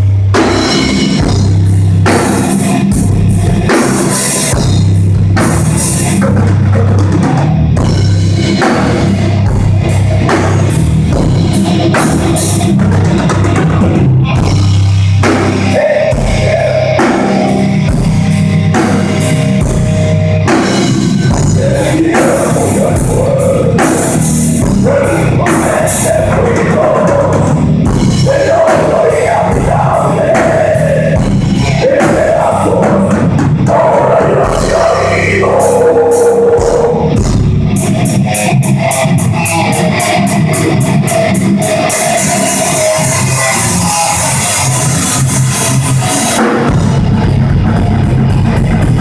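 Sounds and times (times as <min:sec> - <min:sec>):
bass guitar: 0:00.0 - 0:49.0
drum kit hits: 0:00.0 - 0:49.0
electric guitar: 0:00.0 - 0:49.0.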